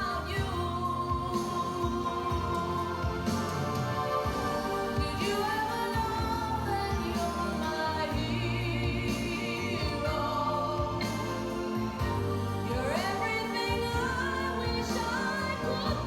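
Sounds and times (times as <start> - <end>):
low accompanying notes: 0.0 - 16.0
voices singing with vibrato: 0.0 - 16.0.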